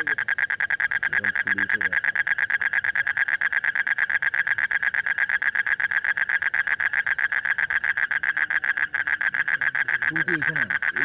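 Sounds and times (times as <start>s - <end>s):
toad pulsed trill call: 0.0s - 11.0s.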